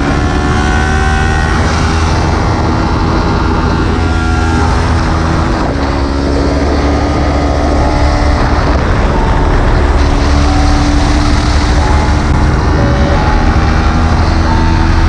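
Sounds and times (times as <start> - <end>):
motorcycle engine accelerating: 0.0 - 15.0
rush of noise: 0.0 - 15.0.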